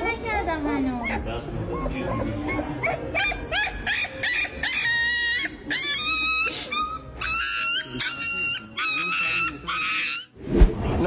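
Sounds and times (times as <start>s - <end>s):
puppy yelping and screaming: 1.0s - 10.4s.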